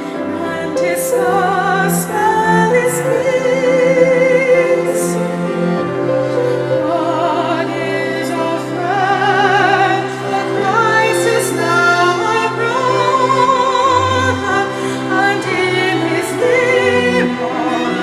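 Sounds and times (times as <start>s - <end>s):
voices singing with vibrato: 0.0s - 18.0s.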